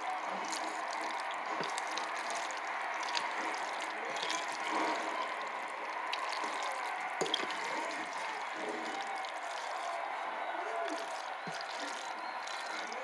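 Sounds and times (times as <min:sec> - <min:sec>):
spoon stirring thick macaroni: 0:00.0 - 0:13.0.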